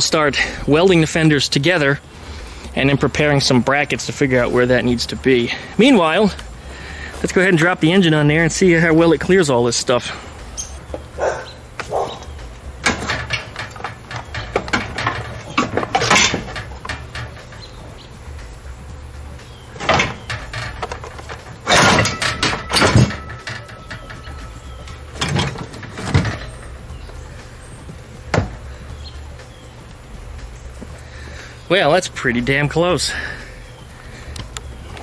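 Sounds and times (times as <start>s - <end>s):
engine clunking on metal frame: 2.7s - 35.0s.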